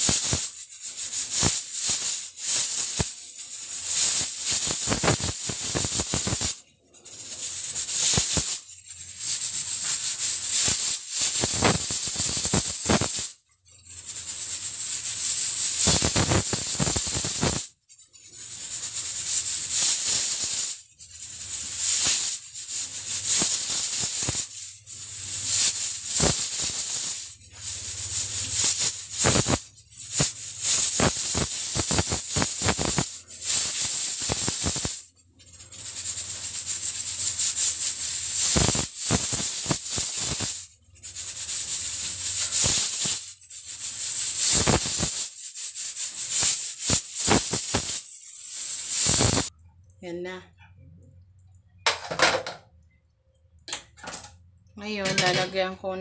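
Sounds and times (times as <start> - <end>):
steam hissing: 0.0 - 49.5, 55.0 - 55.6
pressure cooker valve rattling: 0.0 - 49.6, 51.8 - 52.7, 53.7 - 55.7.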